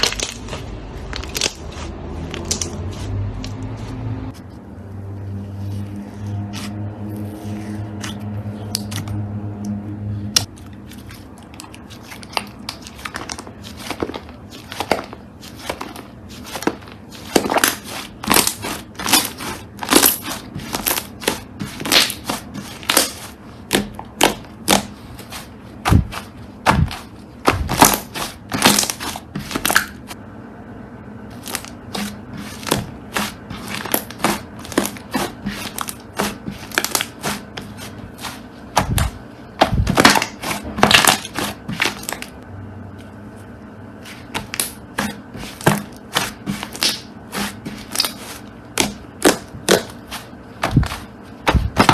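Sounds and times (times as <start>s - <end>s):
crunchy slime crackling: 0.0s - 3.6s, 10.3s - 30.2s, 31.3s - 42.4s, 44.0s - 51.9s.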